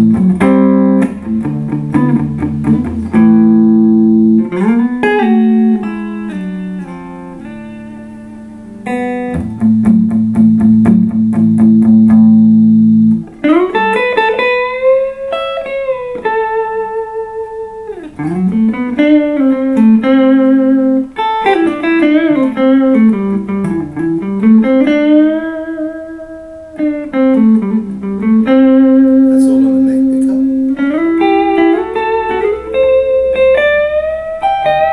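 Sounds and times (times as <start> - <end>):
clean electric guitar: 0.0 - 34.9.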